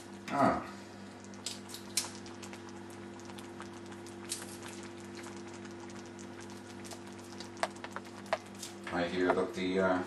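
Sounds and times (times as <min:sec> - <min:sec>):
chili bubbles popping: 0:01.1 - 0:09.6.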